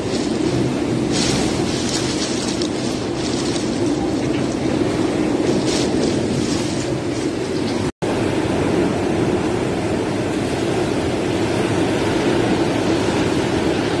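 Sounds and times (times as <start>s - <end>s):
heavy rain: 0.0s - 14.0s
strong wind: 0.0s - 14.0s.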